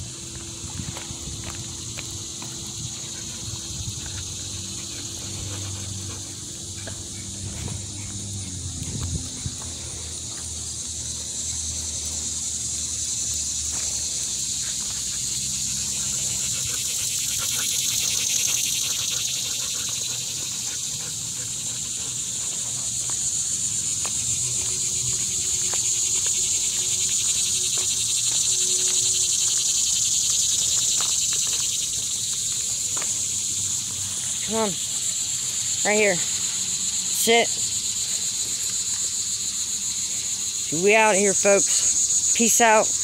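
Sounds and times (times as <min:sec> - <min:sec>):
insects buzzing: 0:00.0 - 0:43.0.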